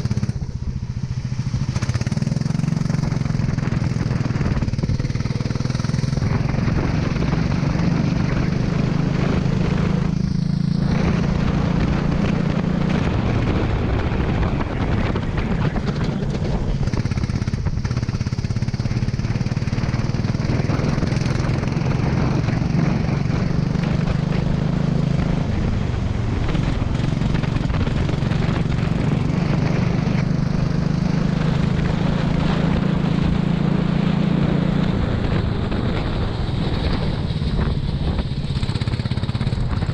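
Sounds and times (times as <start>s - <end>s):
kart engine running at high revs: 0.0s - 39.9s
steady rushing noise: 0.0s - 39.9s.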